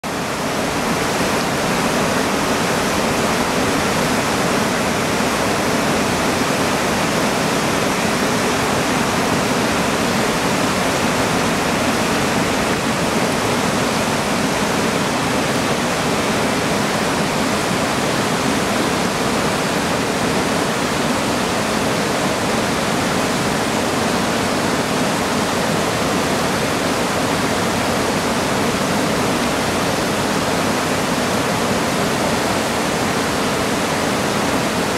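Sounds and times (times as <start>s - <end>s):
water rushing over boulders: 0.0s - 34.9s.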